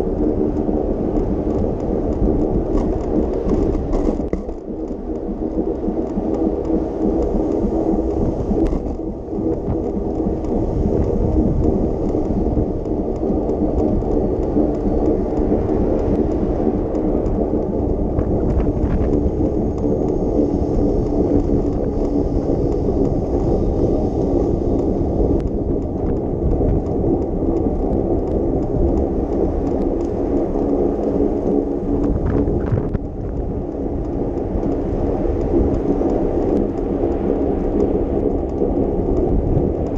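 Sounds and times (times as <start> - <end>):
bicycle tyres on road: 0.0 - 39.9
wind on microphone: 0.0 - 39.9.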